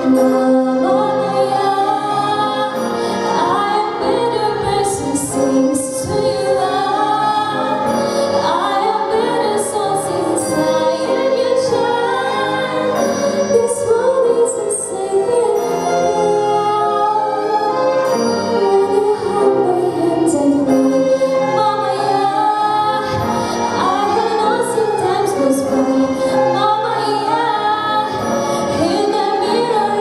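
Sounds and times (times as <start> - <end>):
orchestra playing: 0.0 - 30.0.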